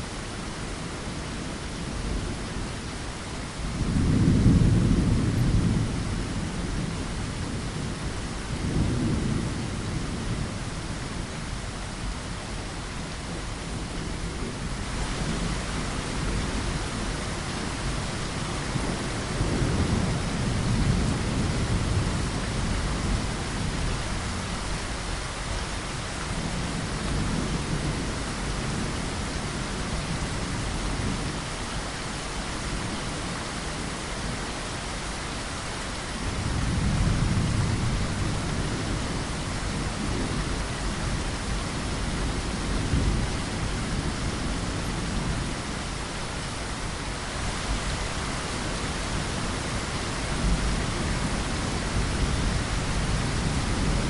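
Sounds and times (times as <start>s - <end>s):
steady rain falling: 0.0s - 54.0s
low rolling thunder: 3.7s - 11.7s, 13.0s - 34.9s, 35.9s - 54.0s.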